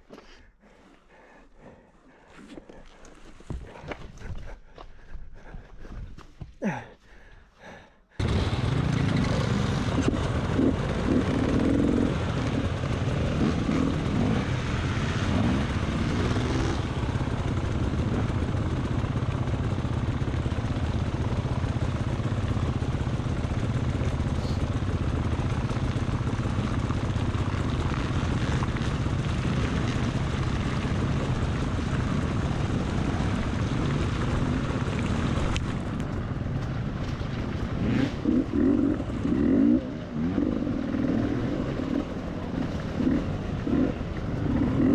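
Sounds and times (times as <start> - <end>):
dirt bike engine running: 8.2 - 44.9.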